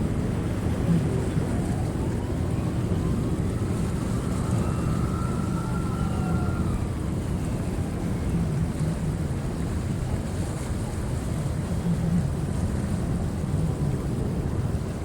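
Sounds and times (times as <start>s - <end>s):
waves rolling in: 0.0s - 15.0s
wind buffeting microphone: 0.0s - 15.0s.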